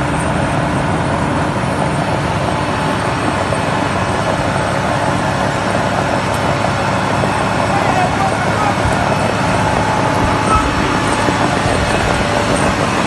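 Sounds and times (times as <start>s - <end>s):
heavy diesel truck engines: 0.0s - 13.0s.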